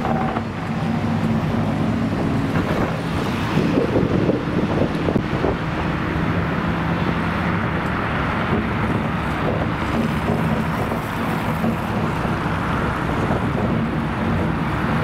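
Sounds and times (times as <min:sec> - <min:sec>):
street traffic: 0:00.0 - 0:15.0
tram on rails: 0:00.0 - 0:15.0
wind buffeting microphone: 0:00.0 - 0:15.0.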